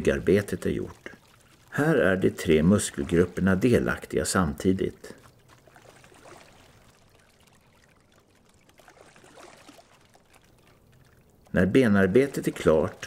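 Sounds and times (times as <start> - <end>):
oars moving through water: 0.0 - 13.0.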